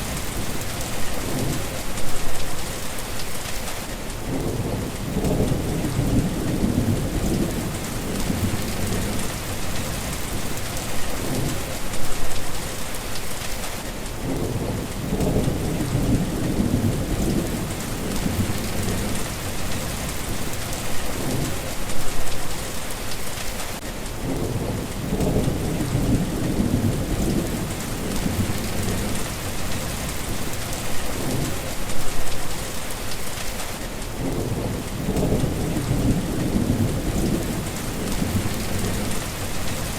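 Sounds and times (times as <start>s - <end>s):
thunder rumbling: 0.0s - 13.5s, 14.2s - 22.7s, 24.2s - 39.9s
steady rain falling: 0.0s - 39.9s.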